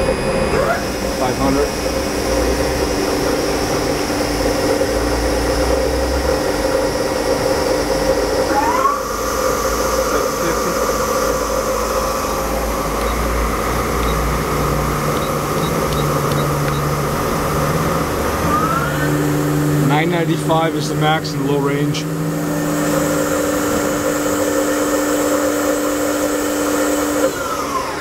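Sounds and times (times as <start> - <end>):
lathe spindle whining: 0.0 - 28.0.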